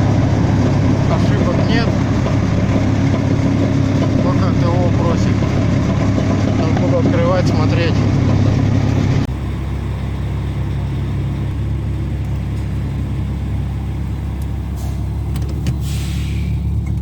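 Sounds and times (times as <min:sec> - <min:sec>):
heavy vehicle engine droning: 0:00.0 - 0:17.0.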